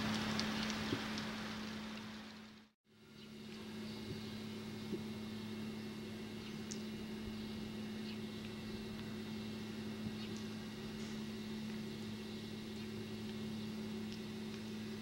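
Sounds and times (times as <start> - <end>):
low hum: 0.0 - 15.0
tape hiss: 0.0 - 15.0.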